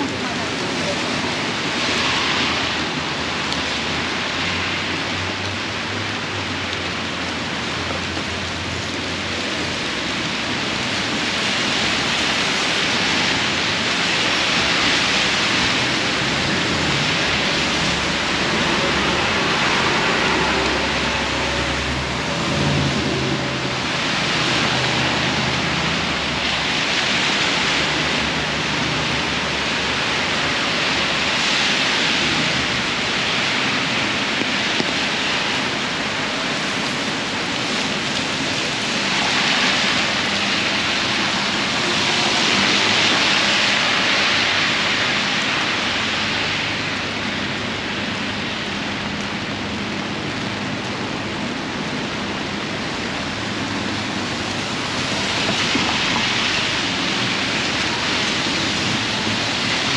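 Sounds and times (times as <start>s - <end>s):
heavy rain on street: 0.0s - 59.9s
low drone of traffic: 0.0s - 59.9s.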